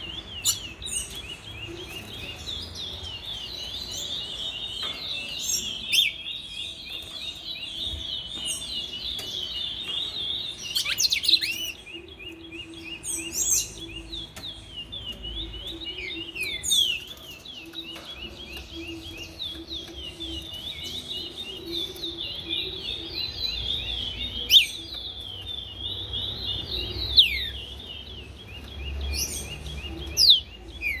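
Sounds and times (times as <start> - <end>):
songbirds twittering: 0.0 - 31.0.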